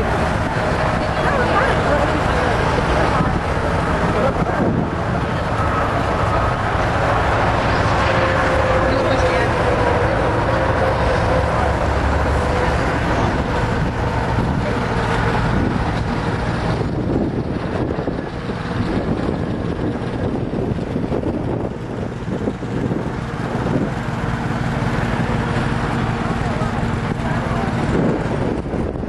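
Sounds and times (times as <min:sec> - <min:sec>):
outdoor noise: 0:00.0 - 0:29.0
truck engine running: 0:00.0 - 0:29.0.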